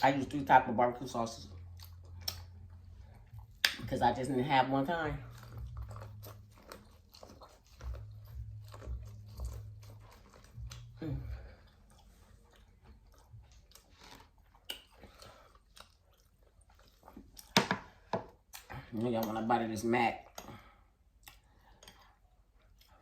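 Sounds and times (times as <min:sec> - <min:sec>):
person chewing with lip smacks: 0:01.3 - 0:04.0, 0:05.2 - 0:19.4, 0:20.2 - 0:23.0.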